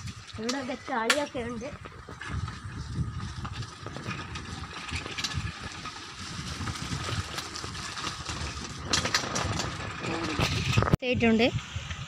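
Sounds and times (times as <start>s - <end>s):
microphone handling rumble: 1.4s - 11.7s.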